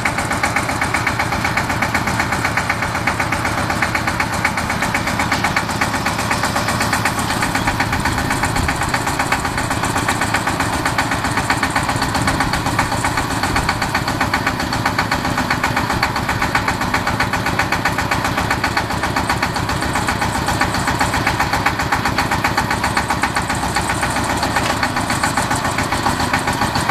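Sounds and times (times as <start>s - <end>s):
small diesel engine chugging: 0.0s - 26.9s.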